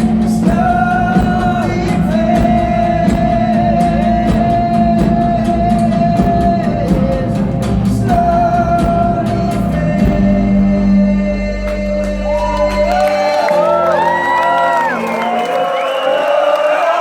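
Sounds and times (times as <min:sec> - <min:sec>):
drums beating: 0:00.0 - 0:15.9
wordless vocal notes: 0:00.0 - 0:17.0.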